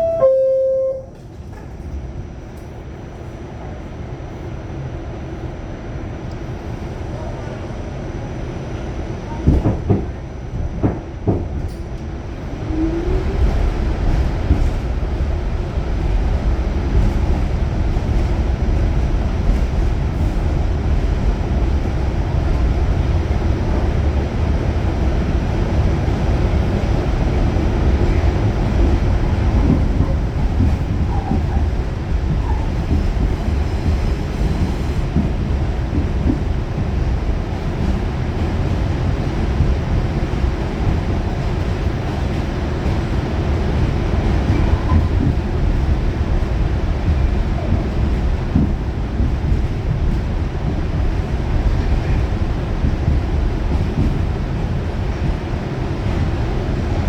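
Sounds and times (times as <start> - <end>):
rumble of wheels on rail: 0.0 - 57.0.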